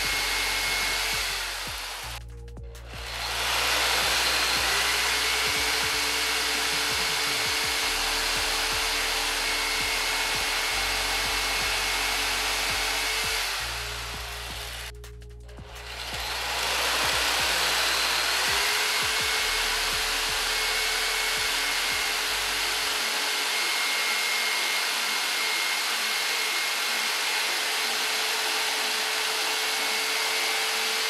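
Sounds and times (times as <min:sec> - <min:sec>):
jigsaw cutting wood: 0:00.0 - 0:02.2, 0:02.9 - 0:14.9, 0:15.6 - 0:31.0.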